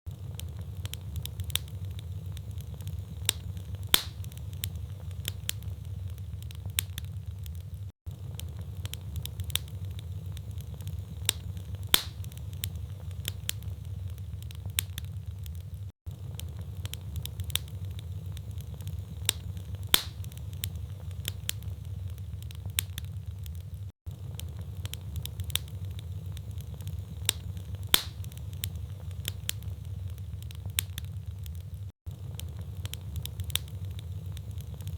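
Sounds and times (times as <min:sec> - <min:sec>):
log fire crackling and popping: 0:00.1 - 0:34.9
low rumble of flames: 0:00.1 - 0:34.9.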